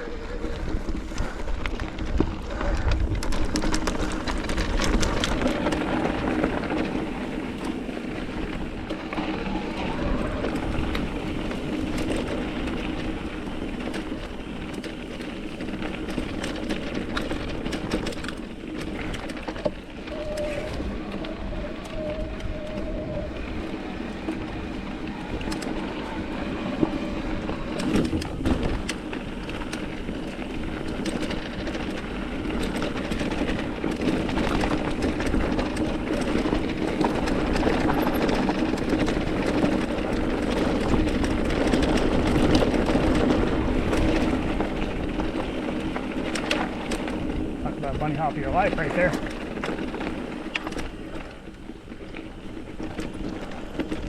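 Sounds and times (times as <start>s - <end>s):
bike rattling: 0.0s - 54.0s
bike tyre rumble: 0.0s - 54.0s.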